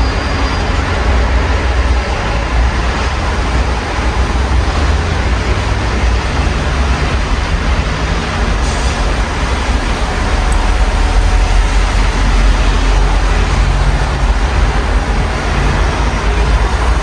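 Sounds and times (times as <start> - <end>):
street traffic rumble: 0.0 - 17.0
steady rain hiss: 2.8 - 17.0.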